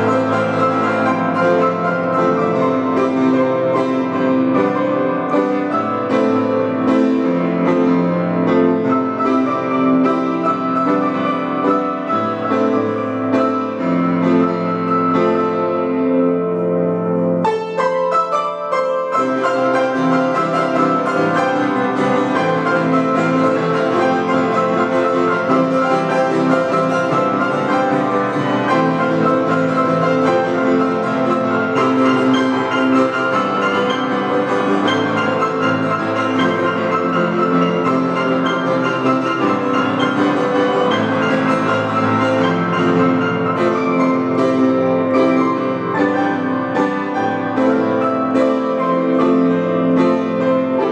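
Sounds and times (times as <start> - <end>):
piano duet: 0.0 - 50.9.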